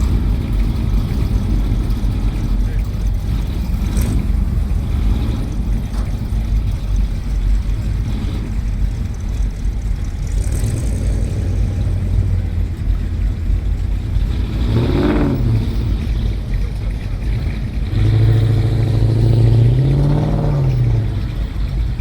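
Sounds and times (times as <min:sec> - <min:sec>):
car driving by: 0:00.0 - 0:22.0
car engines rumbling: 0:00.0 - 0:22.0.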